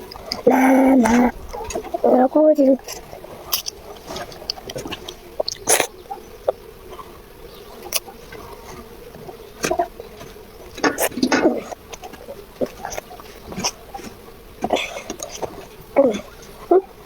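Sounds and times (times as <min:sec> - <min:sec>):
child chewing: 0:00.0 - 0:07.1, 0:07.8 - 0:17.0.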